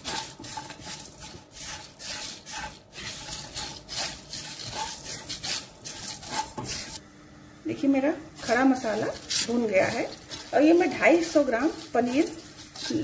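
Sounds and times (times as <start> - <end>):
spatula stirring spices in pan: 0.0 - 7.0, 8.3 - 13.0.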